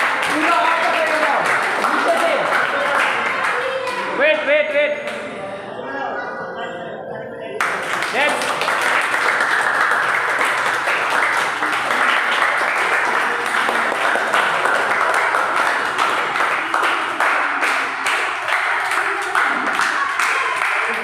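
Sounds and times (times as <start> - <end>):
many hands clapping: 0.0 - 4.1, 7.6 - 21.0.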